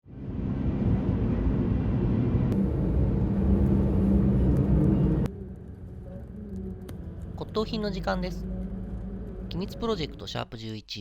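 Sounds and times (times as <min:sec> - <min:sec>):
loud low rumble: 0:00.0 - 0:10.3.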